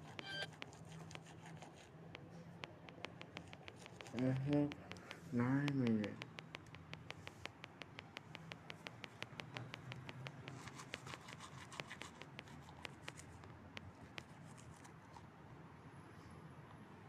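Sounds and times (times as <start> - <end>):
faint rapid clicking: 0.0 - 15.2
steady low hum: 0.0 - 17.0.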